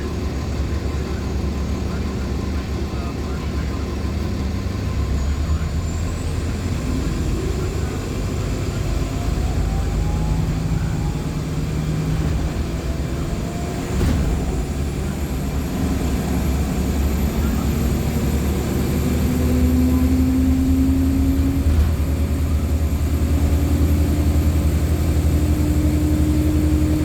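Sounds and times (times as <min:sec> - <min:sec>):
bus diesel engine rumble: 0:00.0 - 0:27.0.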